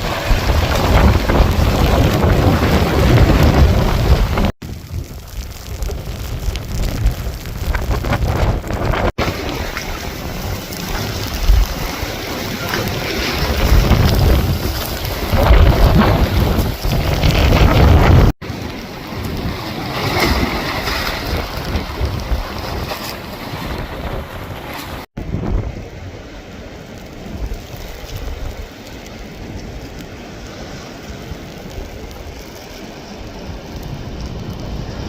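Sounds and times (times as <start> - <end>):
rough surf: 0.0 - 35.0
wind buffeting microphone: 0.0 - 35.0.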